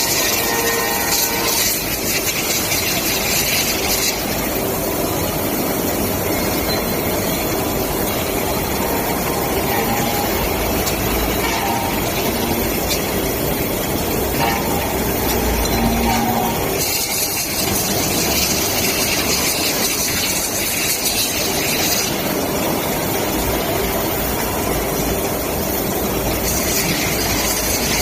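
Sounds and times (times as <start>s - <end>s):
grinding machine running: 0.0s - 28.0s
high grinding hiss: 0.0s - 28.0s.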